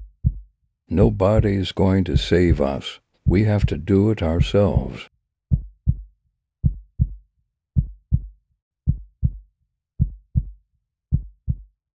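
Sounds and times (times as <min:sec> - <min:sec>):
heartbeat thumps: 0:00.0 - 0:07.2, 0:07.8 - 0:08.3, 0:08.9 - 0:09.4, 0:10.0 - 0:11.7.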